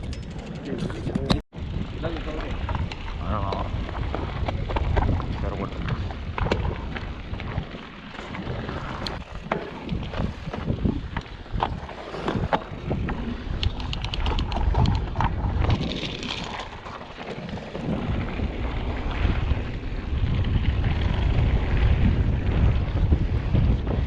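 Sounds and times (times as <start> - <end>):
bike clicks and rattles: 0.0 - 24.0
tyre noise on dirt: 0.0 - 24.0
wind buffeting microphone: 0.0 - 24.0.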